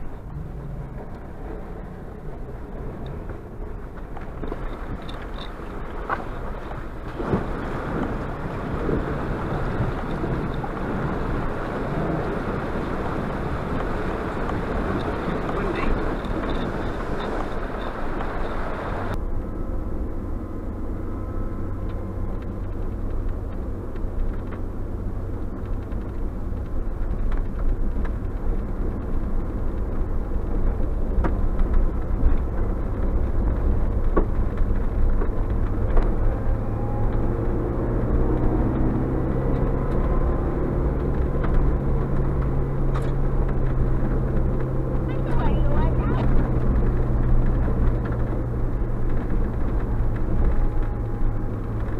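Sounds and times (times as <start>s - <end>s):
car engine and tyres on gravel: 0.0s - 51.9s.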